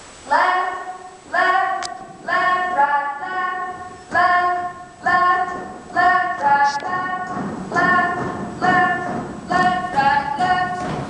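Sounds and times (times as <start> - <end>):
voices singing a cappella chords: 0.3 - 11.0.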